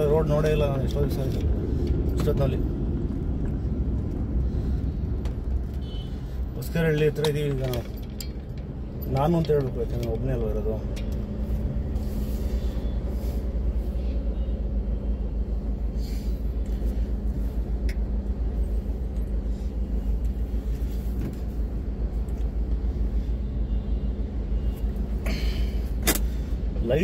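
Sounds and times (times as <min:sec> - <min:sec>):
motorbike and rickshaw traffic: 0:00.0 - 0:27.0.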